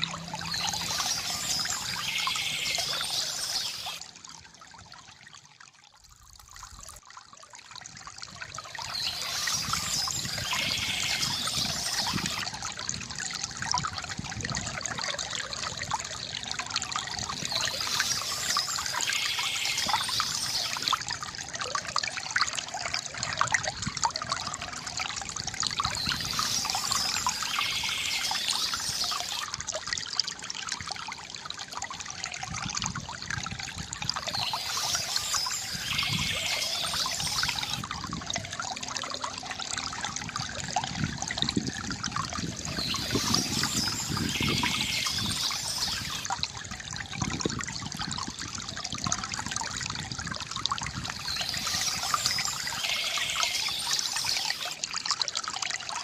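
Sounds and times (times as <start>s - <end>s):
water trickling from fountain: 0.0s - 56.0s.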